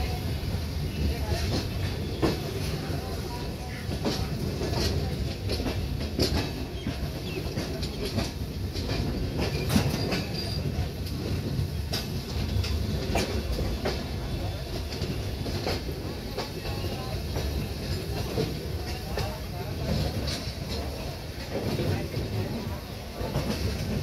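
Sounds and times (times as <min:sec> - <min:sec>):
train wheels rumbling on rail: 0:00.0 - 0:24.0
wheels clacking over rail joints: 0:00.0 - 0:24.0.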